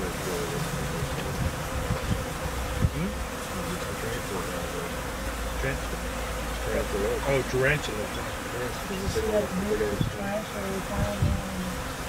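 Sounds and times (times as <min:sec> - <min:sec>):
low handling thumps: 0:00.0 - 0:11.9
bee swarm buzzing: 0:00.0 - 0:12.0.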